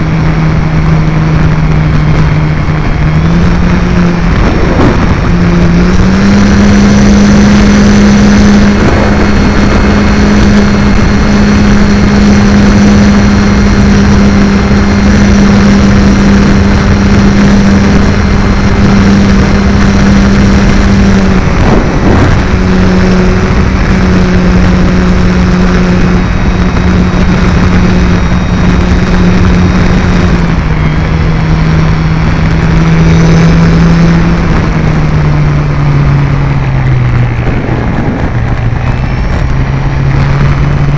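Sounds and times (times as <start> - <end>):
electric motor and propeller buzzing: 0.0 - 40.9
wind rush on microphone: 0.0 - 40.9.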